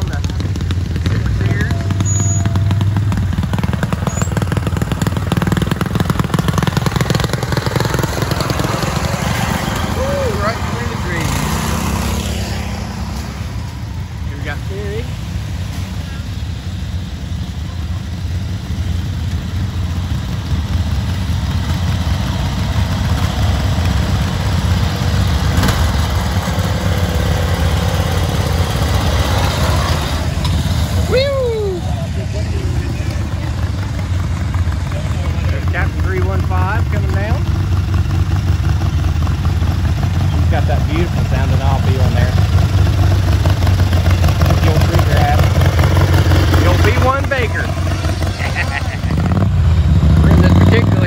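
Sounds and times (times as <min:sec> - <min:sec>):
small engines running under load: 0:00.0 - 0:51.0.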